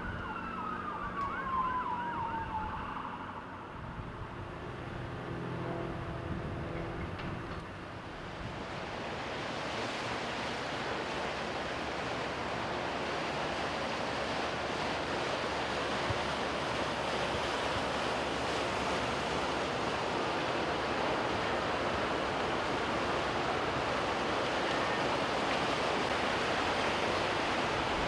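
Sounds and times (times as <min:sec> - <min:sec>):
water rushing past boat: 0:00.0 - 0:28.0.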